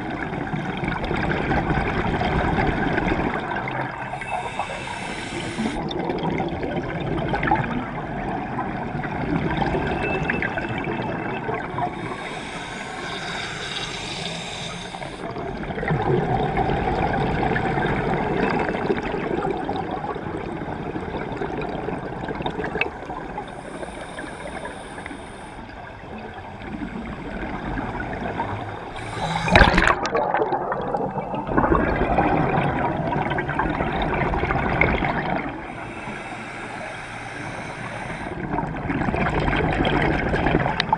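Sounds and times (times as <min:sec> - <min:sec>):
regulator bubbles gurgling underwater: 0:00.0 - 0:40.9.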